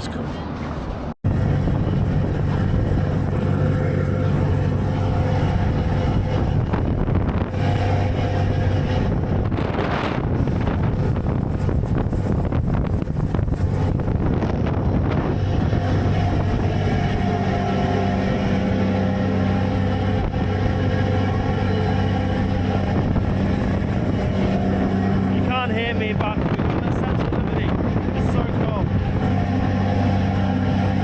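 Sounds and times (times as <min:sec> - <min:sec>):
ferry engine drone: 0:00.0 - 0:31.0
wind buffeting microphone: 0:00.4 - 0:31.0.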